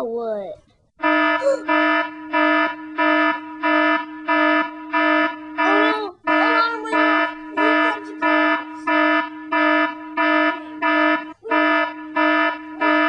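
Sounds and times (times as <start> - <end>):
electronic alarm beeping: 1.0 - 13.0
steady buzzing tone: 1.0 - 13.0
wavering tones: 1.0 - 13.0.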